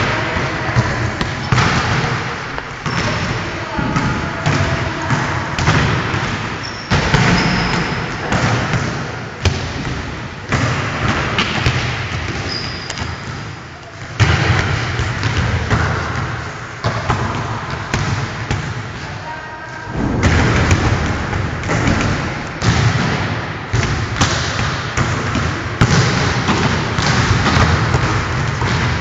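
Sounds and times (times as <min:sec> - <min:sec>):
volleyballs thudding on gym floor: 0:00.0 - 0:19.2, 0:20.0 - 0:29.0
echoing gym din: 0:00.0 - 0:29.0.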